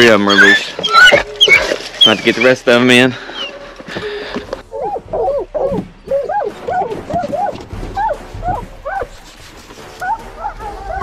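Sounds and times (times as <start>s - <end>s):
dogs barking and bawling: 0.0s - 3.6s, 4.6s - 11.0s.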